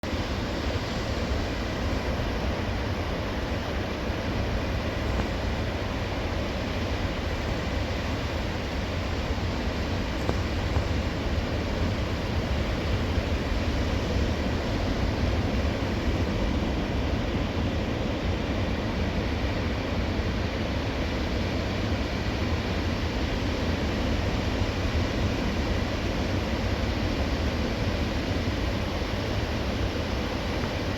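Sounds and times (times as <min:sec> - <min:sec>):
ocean surf washing in: 0:00.0 - 0:30.9.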